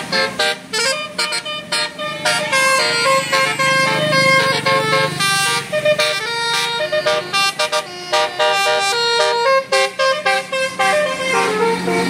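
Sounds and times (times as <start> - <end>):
bus horn playing melody: 0.0 - 12.0.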